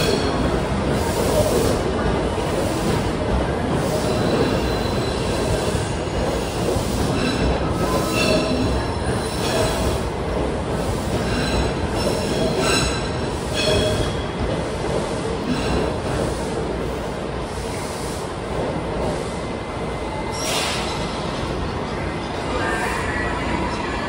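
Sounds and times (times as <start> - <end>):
train rumbling at platform: 0.0 - 24.0.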